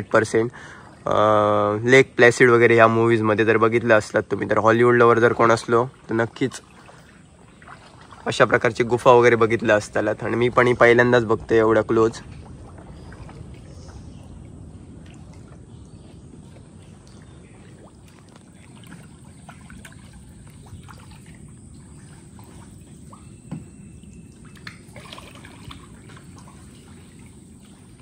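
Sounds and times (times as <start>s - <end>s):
paddles dipping in water: 0.0s - 28.0s
water trickling and dripping: 0.0s - 28.0s.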